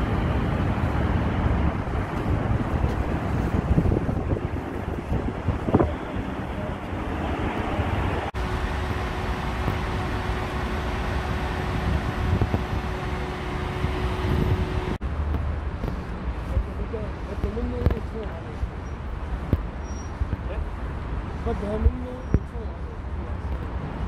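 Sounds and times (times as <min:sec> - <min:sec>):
wind buffeting microphone: 0:00.0 - 0:22.8
cars passing: 0:00.0 - 0:24.0.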